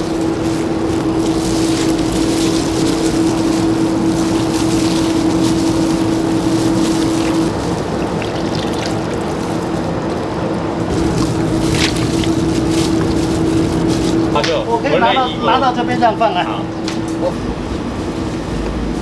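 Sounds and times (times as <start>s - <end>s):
constant hum: 0.0s - 19.0s
mechanical drone: 0.0s - 19.0s.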